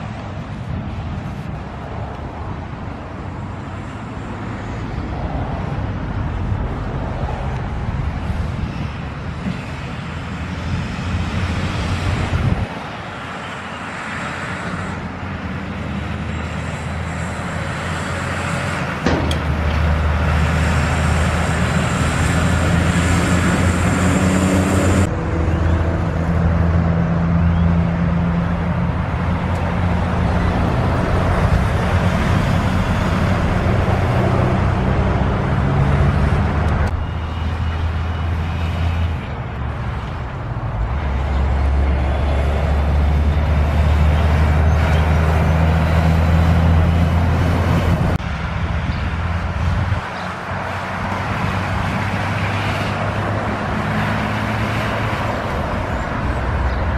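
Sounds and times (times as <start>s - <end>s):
diesel trucks driving past: 0.0s - 56.9s
tyre and road noise: 0.0s - 56.9s.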